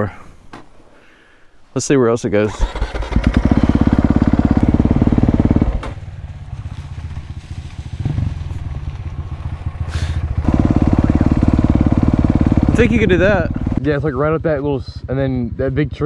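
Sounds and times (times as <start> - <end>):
motorcycle engine running: 2.6 - 16.0.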